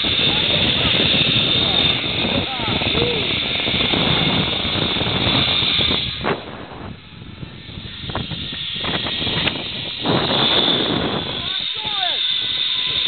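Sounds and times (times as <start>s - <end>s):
pulleys running along cable: 0.0s - 6.4s, 7.4s - 13.0s
wind over microphone: 0.0s - 13.0s.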